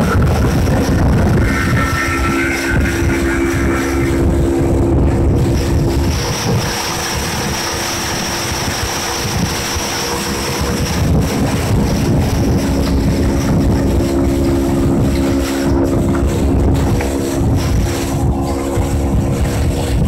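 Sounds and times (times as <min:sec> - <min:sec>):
outboard engine at high revs: 0:00.0 - 0:20.0
splashing water: 0:00.0 - 0:20.0
wind buffeting microphone: 0:00.0 - 0:20.0.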